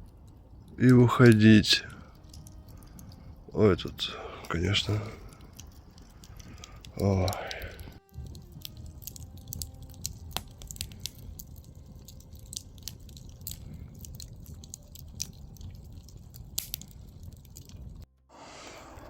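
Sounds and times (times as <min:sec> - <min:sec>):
campfire crackling and popping: 0:00.0 - 0:18.1
low rumble: 0:00.0 - 0:19.0.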